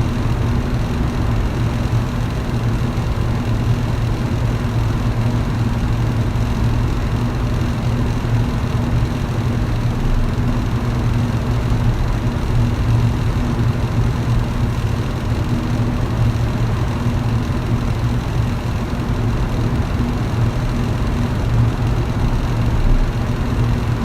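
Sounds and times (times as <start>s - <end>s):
electric fan running: 0.0s - 24.0s.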